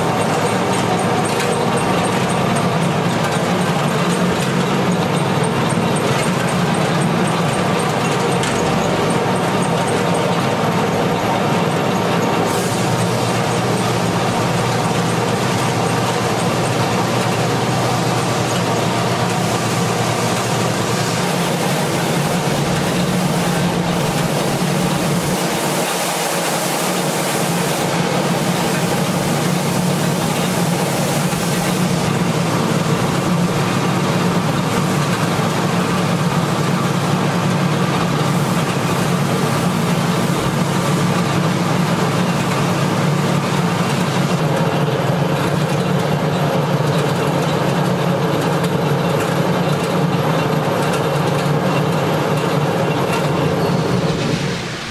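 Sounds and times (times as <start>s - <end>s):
band saw running: 0.0s - 54.9s.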